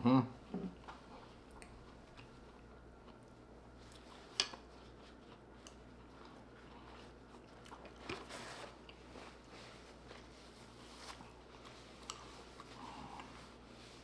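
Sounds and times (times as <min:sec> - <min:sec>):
person chewing food: 0:00.8 - 0:13.8.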